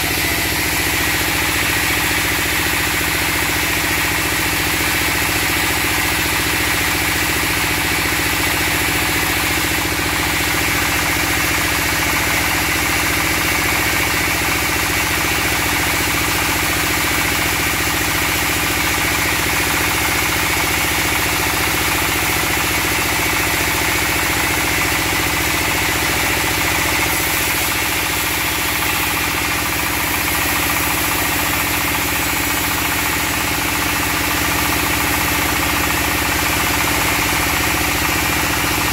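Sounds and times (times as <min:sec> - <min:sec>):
stationary engine running: 0:00.0 - 0:38.9.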